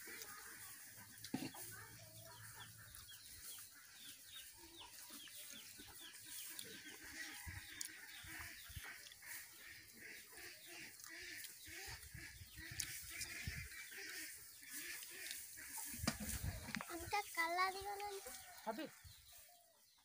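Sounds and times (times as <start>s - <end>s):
faint chickens clucking: 0.0s - 20.0s.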